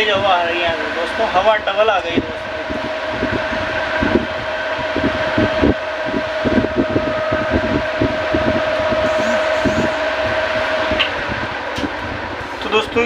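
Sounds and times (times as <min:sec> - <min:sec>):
electric fan motor hum: 0:00.0 - 0:13.0
wind buffeting microphone: 0:00.0 - 0:13.0.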